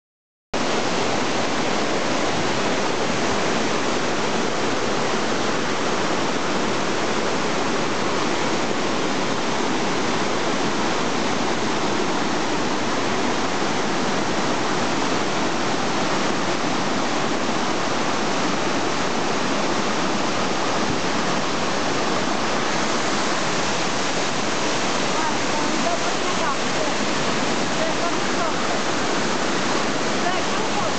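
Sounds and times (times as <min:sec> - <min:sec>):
waterfall rushing: 0:00.6 - 0:30.9.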